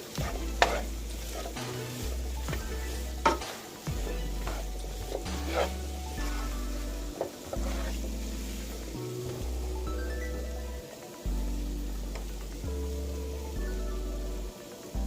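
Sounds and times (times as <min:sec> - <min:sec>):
spatula scraping through vegetables: 0:00.0 - 0:13.5
background music with bass: 0:00.0 - 0:15.0
vegetables frying in a pan: 0:00.0 - 0:15.0.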